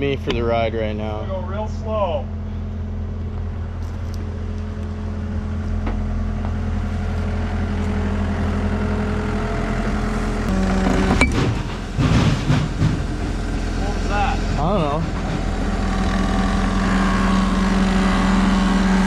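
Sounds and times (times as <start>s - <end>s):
skid steer engine running: 0.0s - 19.0s.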